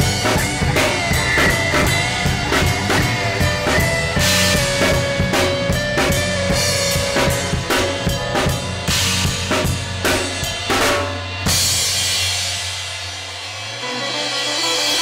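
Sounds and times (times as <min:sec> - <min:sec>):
drum kit playing rock beat: 0:00.0 - 0:15.0
rock backing track: 0:00.0 - 0:15.0.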